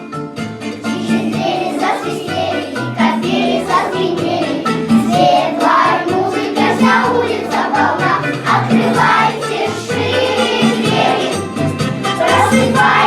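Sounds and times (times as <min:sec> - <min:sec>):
instrumental accompaniment: 0:00.0 - 0:13.0
children singing: 0:00.6 - 0:13.0.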